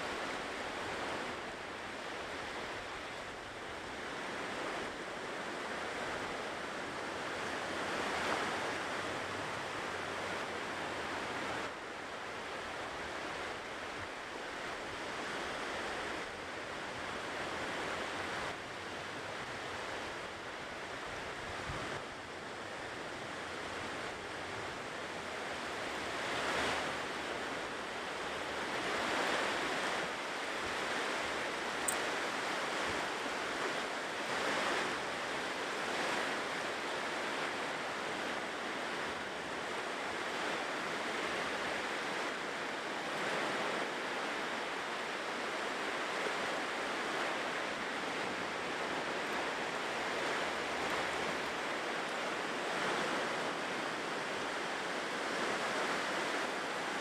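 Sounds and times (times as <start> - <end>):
ocean surf washing onto shore: 0.0 - 57.0.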